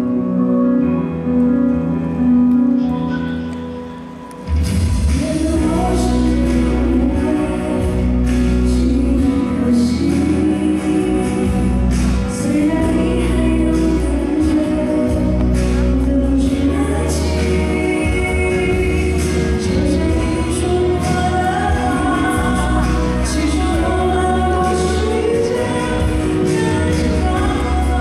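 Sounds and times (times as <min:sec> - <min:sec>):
amplified band with heavy bass: 0:00.0 - 0:28.0
woman singing into a microphone: 0:05.1 - 0:28.0.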